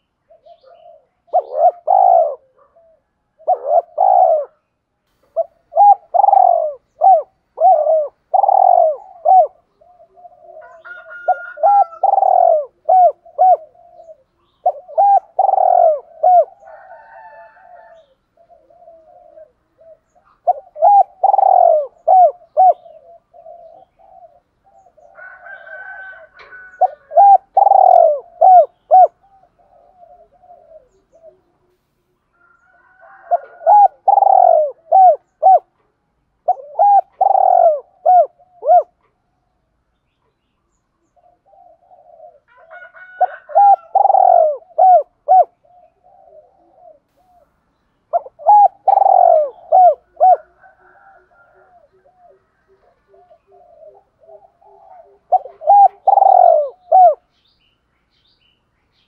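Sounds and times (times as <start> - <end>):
dove cooing: 0.0 - 39.6, 41.0 - 57.4.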